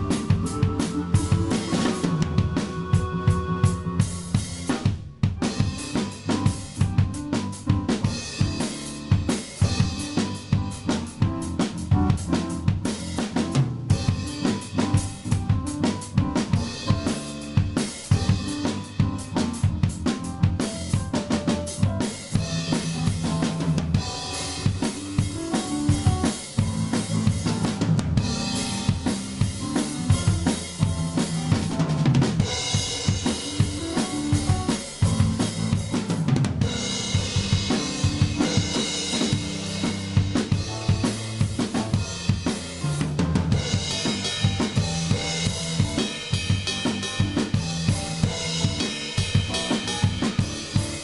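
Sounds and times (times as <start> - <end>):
drum kit playing: 0.0 - 51.0
live instrumental band: 0.0 - 51.0.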